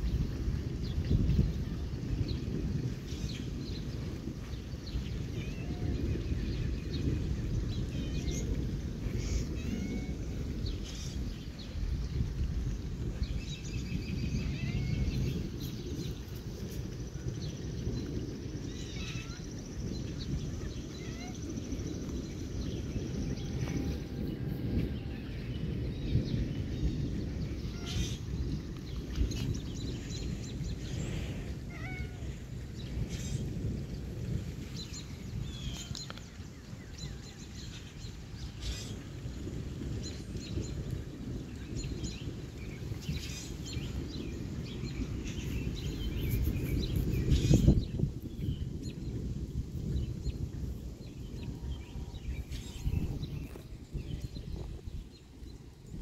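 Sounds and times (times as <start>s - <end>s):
continuous low rumble: 0.0s - 56.0s
low rolling thunder: 0.0s - 56.0s
songbirds chirping: 0.0s - 56.0s.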